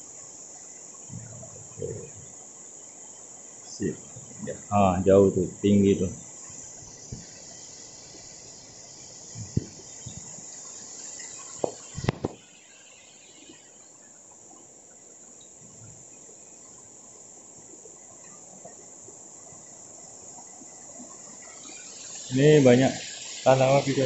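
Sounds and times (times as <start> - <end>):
insect chorus buzzing: 0.0 - 24.0.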